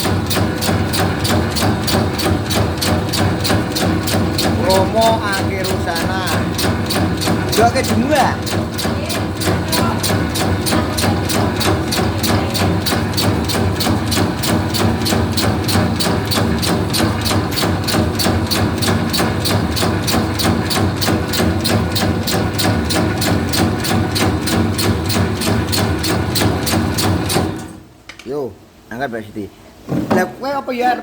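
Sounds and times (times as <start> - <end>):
machine clacking: 0.0 - 27.8
machine motor hum: 0.0 - 27.8.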